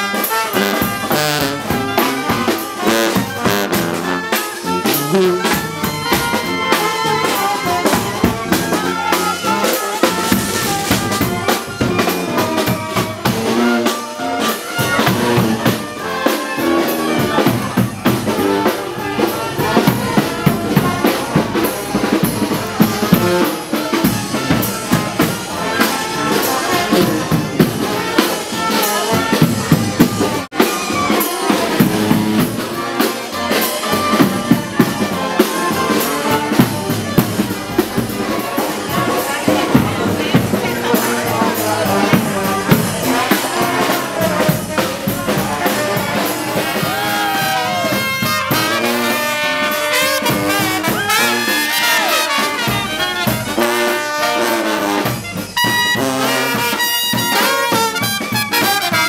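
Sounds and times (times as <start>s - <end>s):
brass band music: 0.0s - 59.0s.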